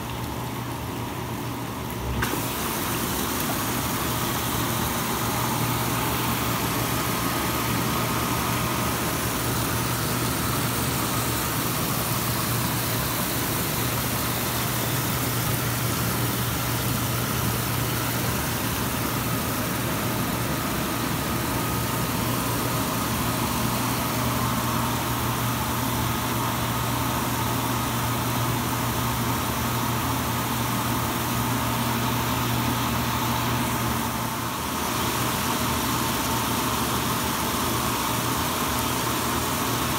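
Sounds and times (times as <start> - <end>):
jet pumps humming: 0.0 - 39.9.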